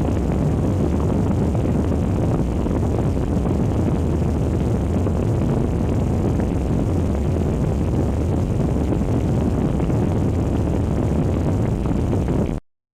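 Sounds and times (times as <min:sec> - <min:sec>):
loud low rumble: 0:00.0 - 0:12.6.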